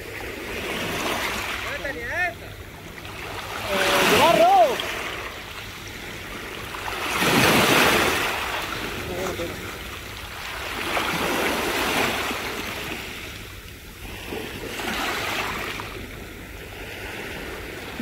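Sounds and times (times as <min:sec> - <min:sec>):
sea surf washing ashore: 0:00.0 - 0:18.0.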